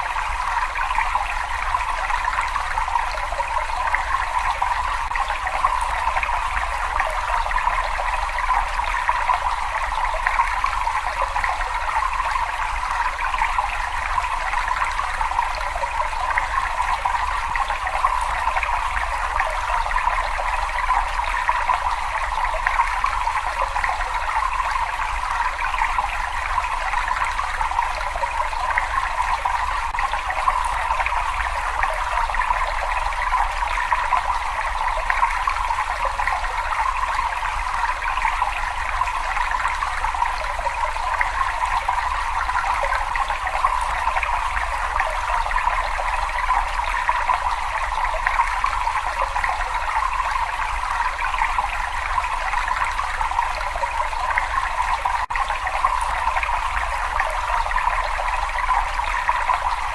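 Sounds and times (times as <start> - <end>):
rush of running water: 0.0 - 59.9.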